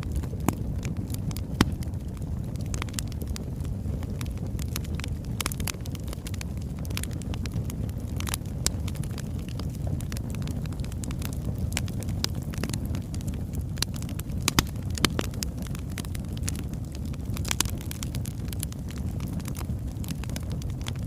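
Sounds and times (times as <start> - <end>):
fire crackles and pops: 0.0 - 21.0
fire flame rumble: 0.0 - 21.0.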